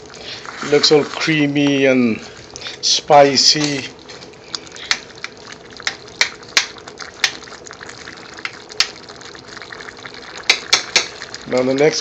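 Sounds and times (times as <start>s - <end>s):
sauce slopping in a pan: 0.0s - 12.0s.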